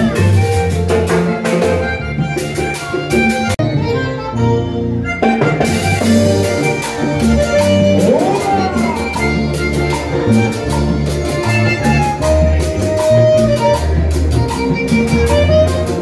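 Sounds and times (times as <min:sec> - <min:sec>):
percussion beat: 0:00.0 - 0:03.7, 0:05.2 - 0:16.0
button accordion: 0:00.0 - 0:16.0
live latin dance band: 0:00.0 - 0:16.0.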